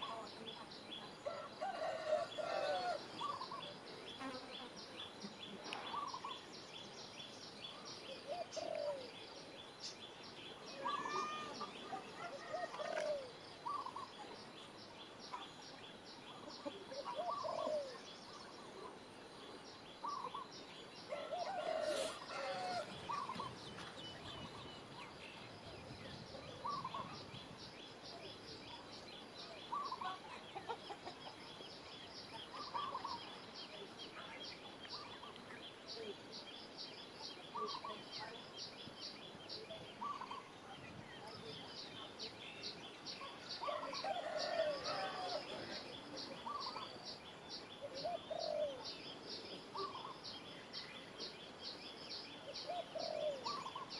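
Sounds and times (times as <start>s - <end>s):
bird calls: 0.0s - 53.9s.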